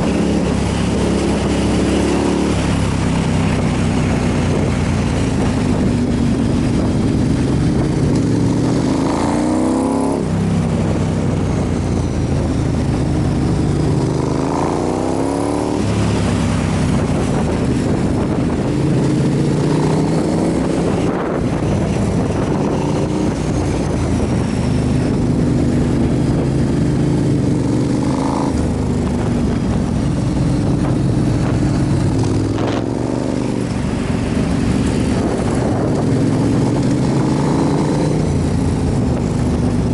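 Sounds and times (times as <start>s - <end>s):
motorcycle engine shifting gears: 0.0s - 39.9s
wind and road noise: 0.0s - 39.9s.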